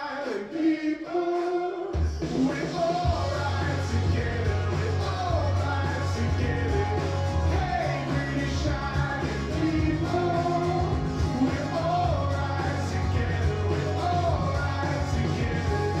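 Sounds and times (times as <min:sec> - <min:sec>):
rock song from a vinyl record: 0:00.0 - 0:16.0.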